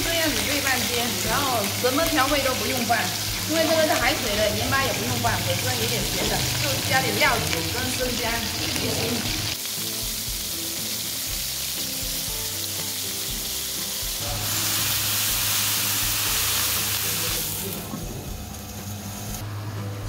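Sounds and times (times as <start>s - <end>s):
crabs sizzling in a wok: 0.0s - 20.0s.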